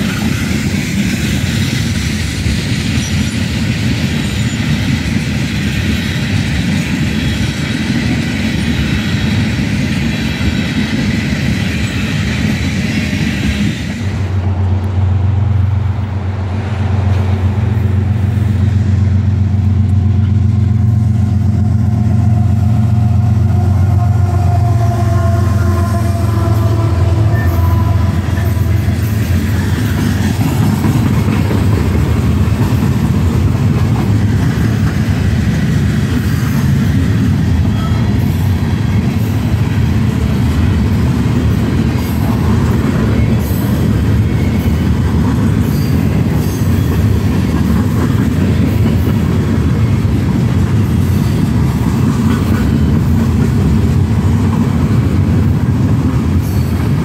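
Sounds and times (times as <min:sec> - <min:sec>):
diesel locomotive engine drone: 0:00.0 - 0:57.0
freight cars rolling on rails: 0:00.0 - 0:57.0.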